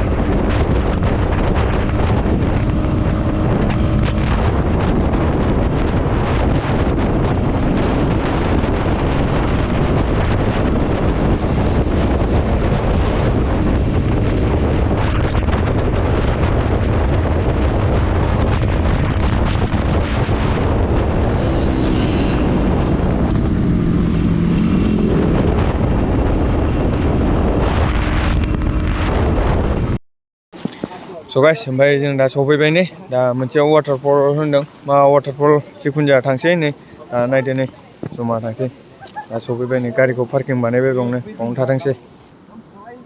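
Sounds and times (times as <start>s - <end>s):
wind buffeting microphone: 0.0s - 30.0s, 30.6s - 43.0s.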